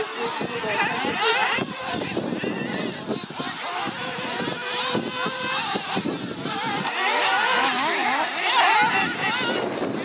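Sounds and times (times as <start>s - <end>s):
small nitro engines buzzing: 0.0s - 10.0s.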